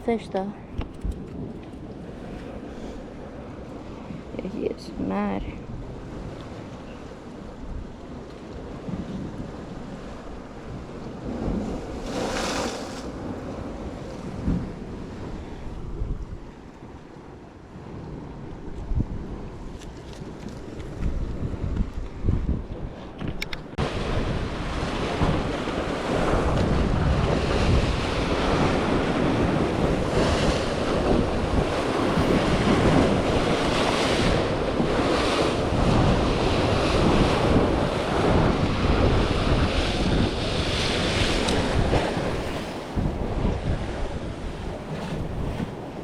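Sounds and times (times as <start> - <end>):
sea waves: 0.0 - 46.0
wind buffeting microphone: 0.0 - 46.0.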